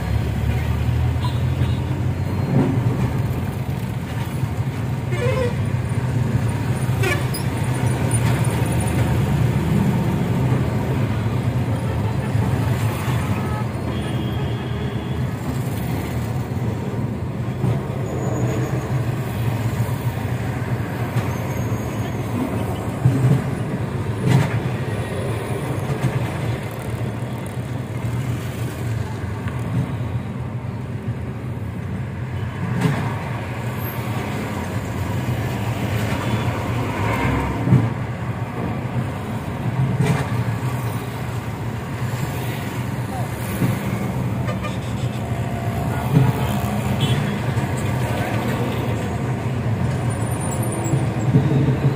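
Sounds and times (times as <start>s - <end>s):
road traffic noise: 0.0s - 51.9s.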